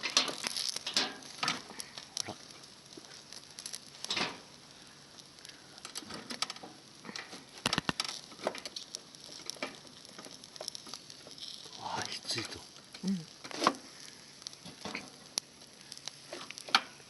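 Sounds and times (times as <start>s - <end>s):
rustle: 0.0s - 17.0s.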